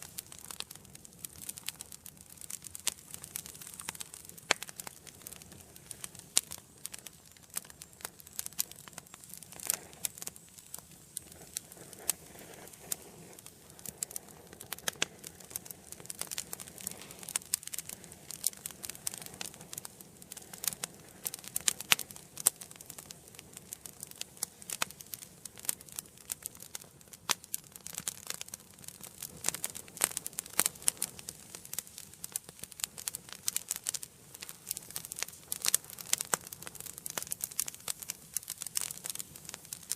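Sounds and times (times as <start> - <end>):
flames hissing: 0.0 - 39.9
wood fire crackling: 0.0 - 39.9.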